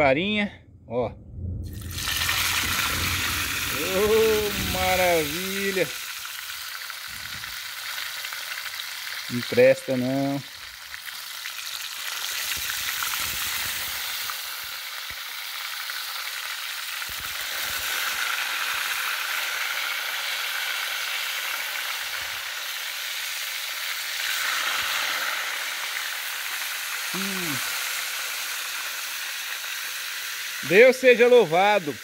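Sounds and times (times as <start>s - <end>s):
fish deep-frying in oil: 1.7s - 32.0s.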